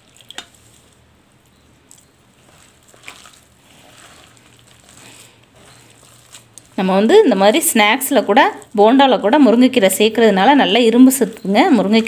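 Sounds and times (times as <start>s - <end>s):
hand squelching wet batter: 0.0s - 12.0s.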